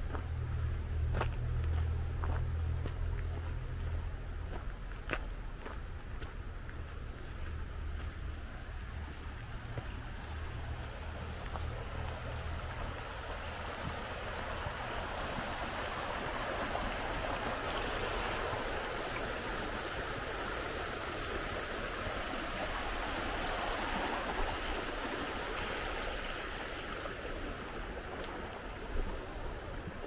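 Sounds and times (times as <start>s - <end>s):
creek water rushing over rapids: 0.0s - 30.0s.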